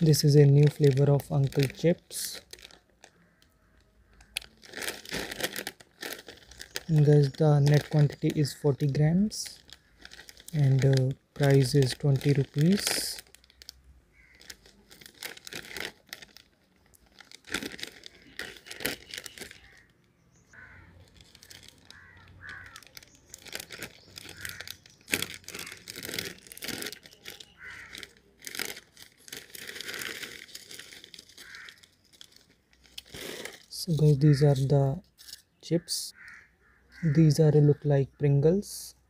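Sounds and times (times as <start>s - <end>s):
chips packet tearing open: 0.0s - 3.4s, 4.2s - 19.9s, 20.6s - 34.1s
chips packet crinkling: 0.0s - 19.9s, 20.5s - 35.4s.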